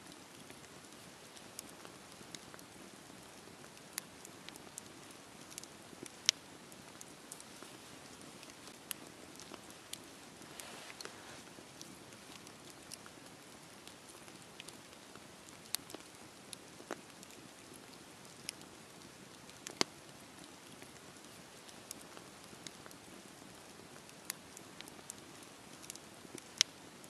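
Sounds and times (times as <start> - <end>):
campfire hiss: 0.0 - 27.0
fire crackling and popping: 0.0 - 27.0.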